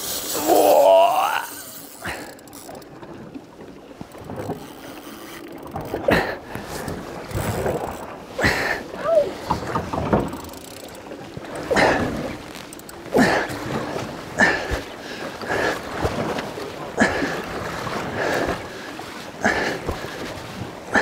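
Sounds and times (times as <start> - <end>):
steady water wash: 0.0 - 21.0
water slapping boat hull: 0.0 - 21.0.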